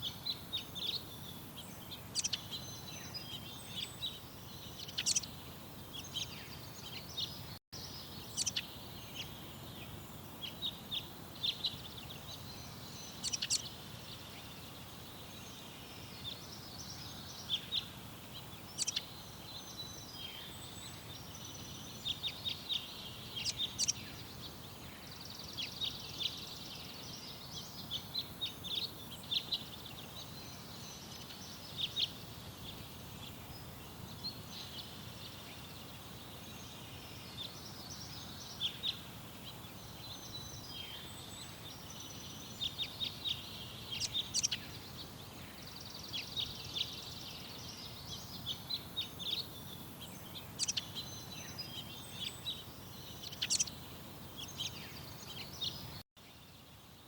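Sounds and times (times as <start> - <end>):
low background noise: 0.0 - 57.0
small songbirds chirping: 0.0 - 57.0.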